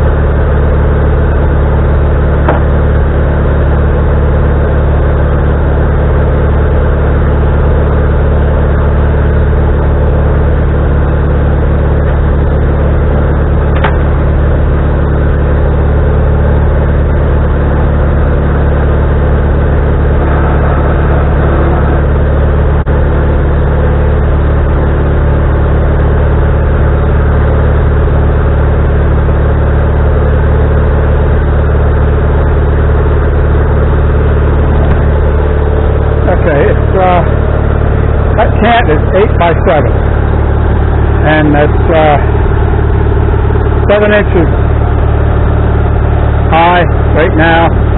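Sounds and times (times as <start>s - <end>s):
sawmill engine running steadily: 0.0s - 47.9s.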